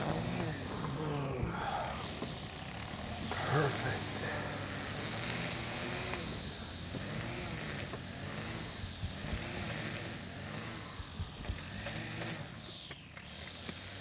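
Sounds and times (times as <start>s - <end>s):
gas-powered yard tool running: 0.0s - 14.0s.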